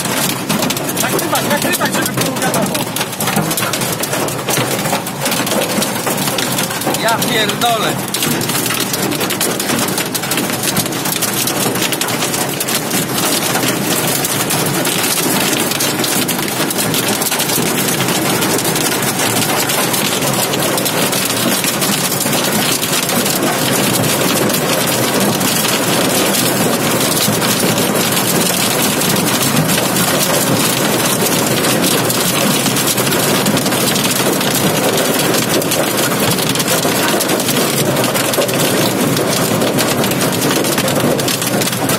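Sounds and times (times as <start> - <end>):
heavy rain on vehicle roof: 0.0 - 41.9.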